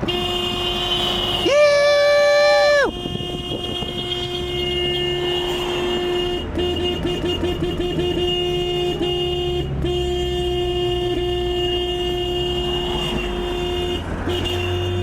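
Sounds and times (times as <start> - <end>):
car horn blast: 0.0 - 15.0
short car horn toots: 2.3 - 15.0.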